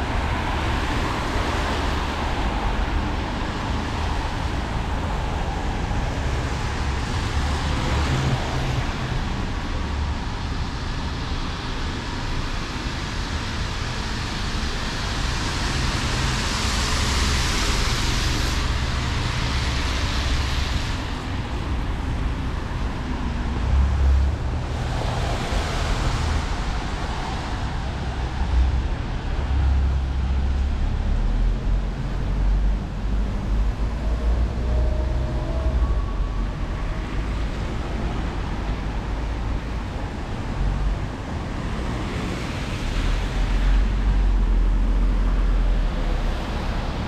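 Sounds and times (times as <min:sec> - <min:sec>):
low traffic rumble: 0:00.0 - 0:47.0
tyres hissing on wet road: 0:00.0 - 0:47.0.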